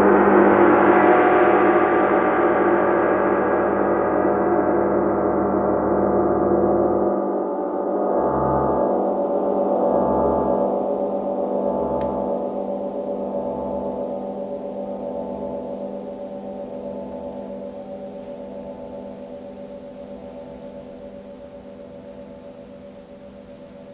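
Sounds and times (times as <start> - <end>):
soft low throbs: 4.6 - 23.9.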